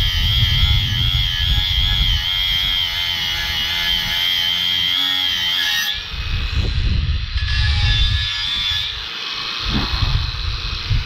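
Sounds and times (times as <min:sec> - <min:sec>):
angle grinder grinding metal: 0:00.0 - 0:11.0.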